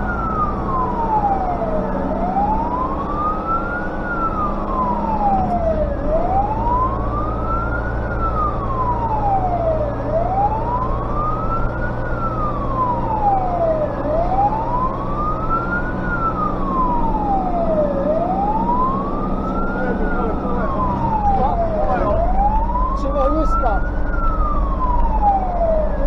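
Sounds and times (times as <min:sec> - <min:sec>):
fire engine siren wailing: 0:00.0 - 0:26.0
truck engine running: 0:00.0 - 0:26.0.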